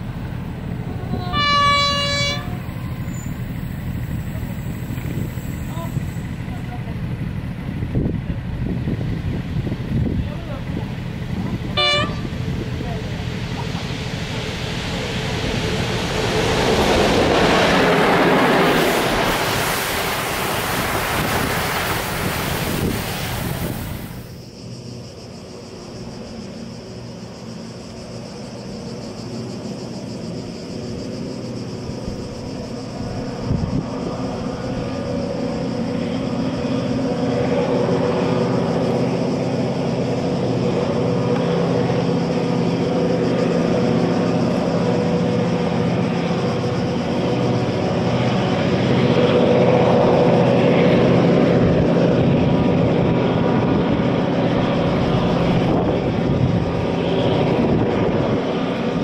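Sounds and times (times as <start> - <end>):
locomotive wheels rushing noise: 0.0 - 24.5, 27.7 - 59.0
distant freight train humming: 0.0 - 59.0.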